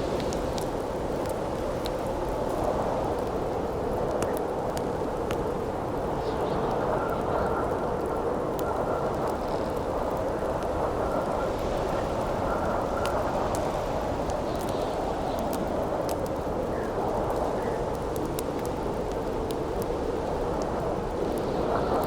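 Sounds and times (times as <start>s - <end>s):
campfire crackling: 0.0s - 22.0s
howling wind: 0.0s - 22.0s.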